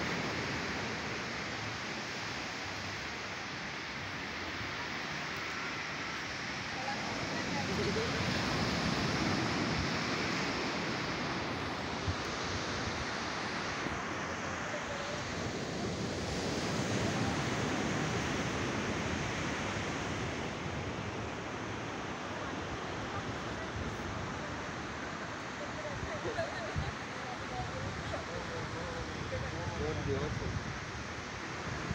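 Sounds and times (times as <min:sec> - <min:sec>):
ocean surf rushing: 0:00.0 - 0:31.9.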